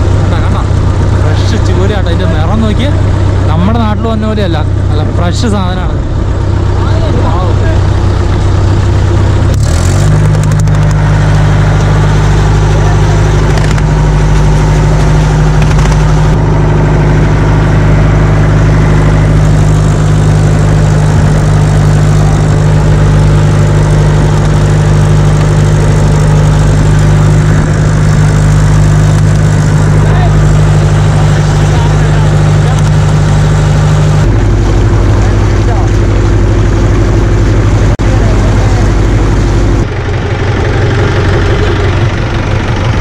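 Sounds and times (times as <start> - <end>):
boat engine running loud: 0.0 - 43.0.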